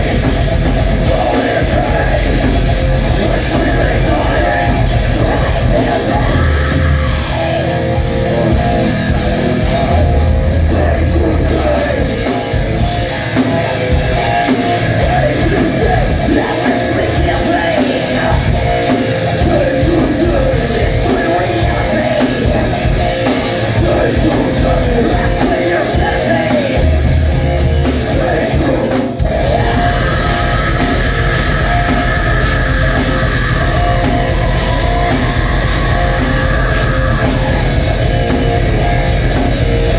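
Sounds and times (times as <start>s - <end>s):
person singing: 0.0s - 13.1s, 13.9s - 27.1s, 27.8s - 39.9s
electric guitar: 0.0s - 39.9s
heavy rock band playing: 0.0s - 39.9s.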